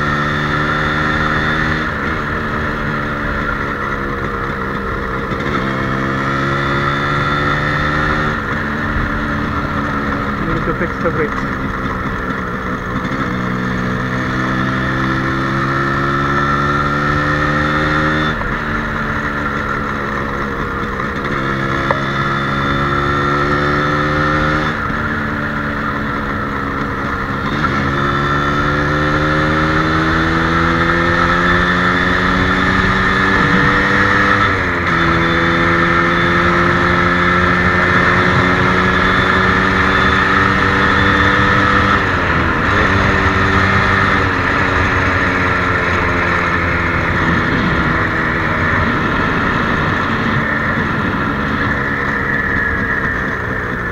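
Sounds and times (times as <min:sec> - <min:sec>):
two-stroke motorbike engine: 0:00.0 - 0:53.9.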